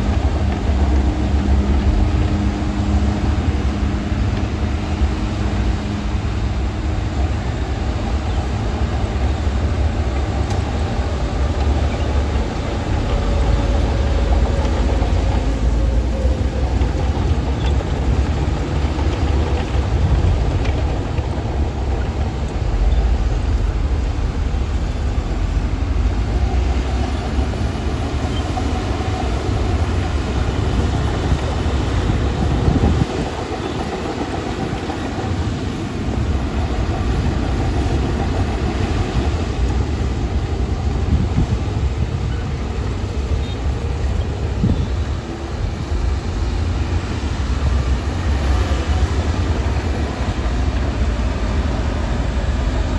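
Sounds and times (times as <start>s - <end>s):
bulldozer diesel engine rumbling: 0.0s - 52.9s.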